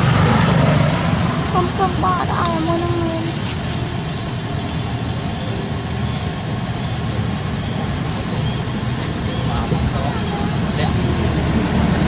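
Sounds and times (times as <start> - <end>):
faint high whine: 0.0 - 12.0
outdoor rumble with hiss: 0.0 - 12.0.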